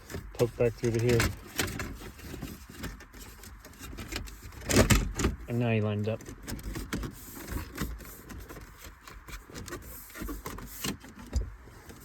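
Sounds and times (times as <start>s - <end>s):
plastic trim rubbing and clicking: 0.0s - 12.0s.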